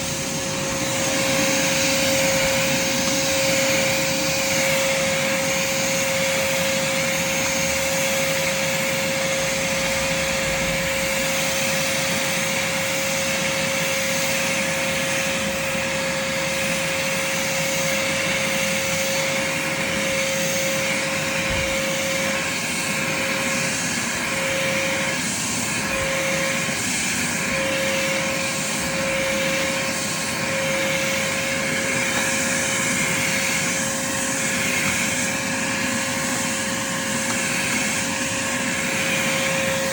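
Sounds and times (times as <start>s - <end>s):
shop vacuum motor whining: 0.0s - 39.9s.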